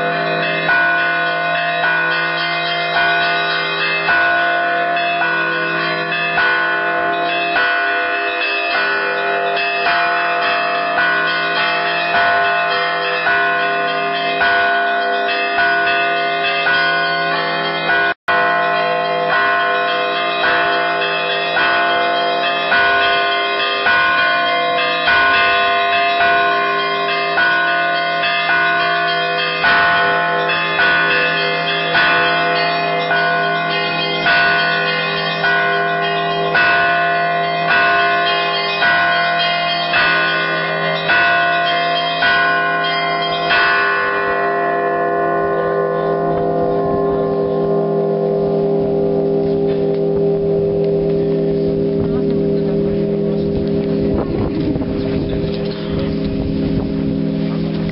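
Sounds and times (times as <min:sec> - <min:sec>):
church bells pealing: 0:00.0 - 0:57.9.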